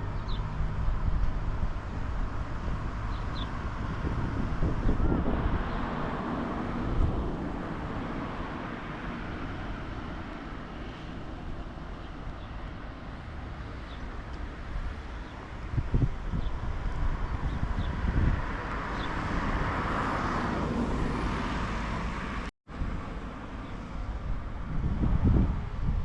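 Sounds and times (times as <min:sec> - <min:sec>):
vehicle passing: 0:00.0 - 0:25.6.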